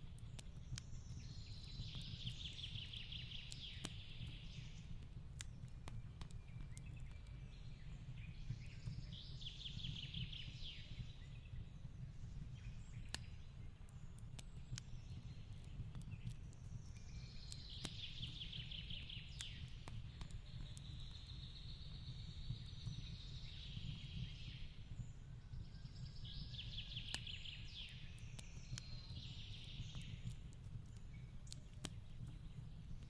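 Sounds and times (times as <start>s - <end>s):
fireplace crackling and popping: 0.0s - 33.0s.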